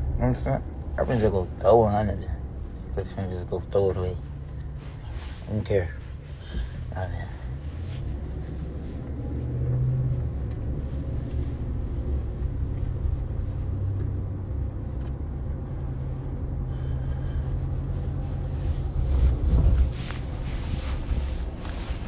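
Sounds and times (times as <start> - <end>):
car cabin rumble: 0.0 - 22.0.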